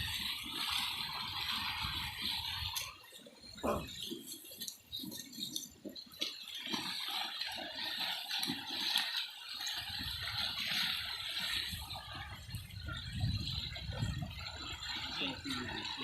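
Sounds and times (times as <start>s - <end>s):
river water splashing and gurgling: 0.0s - 16.0s.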